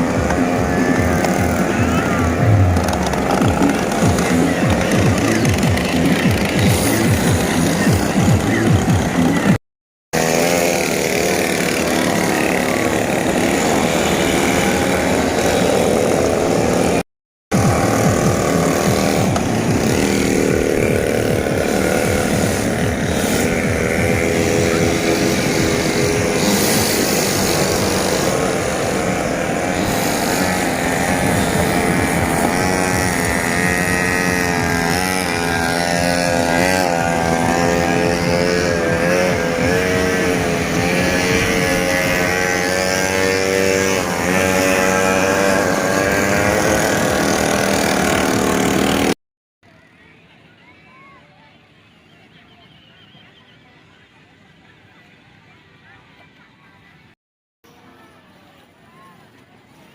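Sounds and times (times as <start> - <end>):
small engine revving: 0.0 - 49.2.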